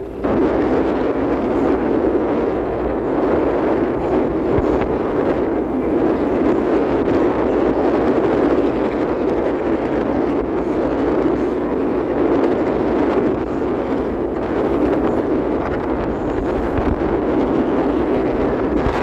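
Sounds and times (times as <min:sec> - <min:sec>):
rushing noise aboard boat: 0:00.0 - 0:19.0
wind buffeting microphone: 0:00.0 - 0:19.0.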